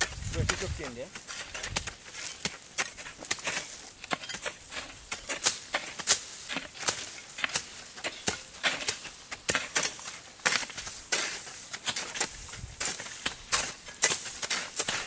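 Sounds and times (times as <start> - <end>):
leaves and stems crackling underfoot: 0.0 - 15.0.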